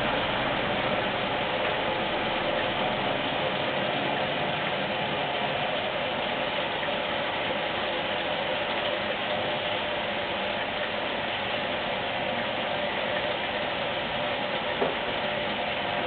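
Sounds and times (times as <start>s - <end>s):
water rushing into washing machine: 0.0s - 16.0s.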